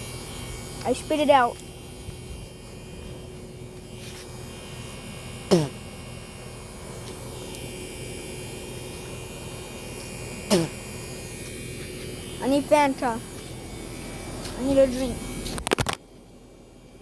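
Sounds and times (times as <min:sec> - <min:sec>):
washing machine motor hum: 0:00.0 - 0:15.7.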